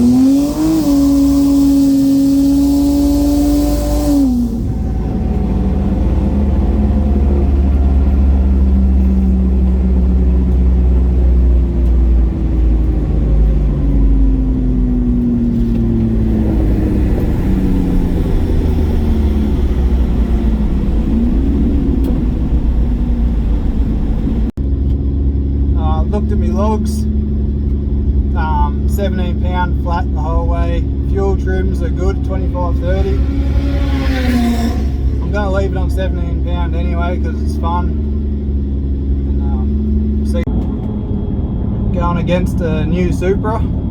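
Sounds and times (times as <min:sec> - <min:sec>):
turbocharged car engine revving: 0:00.0 - 0:43.9.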